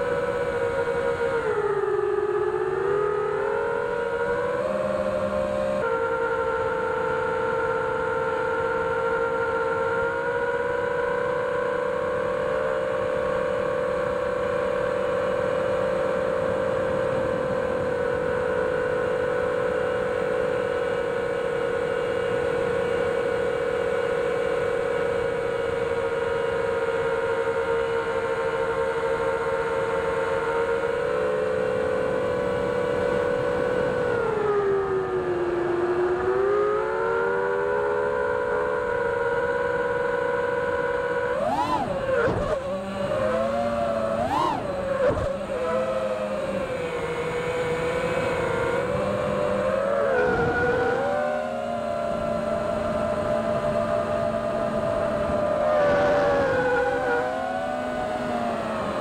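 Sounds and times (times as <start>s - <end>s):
drone motors whining: 11.3s - 59.0s.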